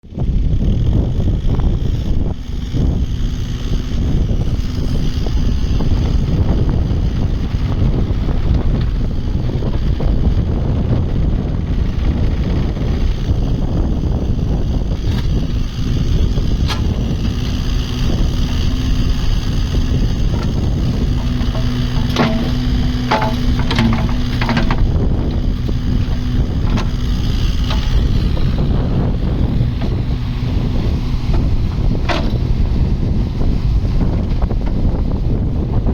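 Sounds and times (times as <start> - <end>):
excavator diesel engine running: 0.1 - 35.9.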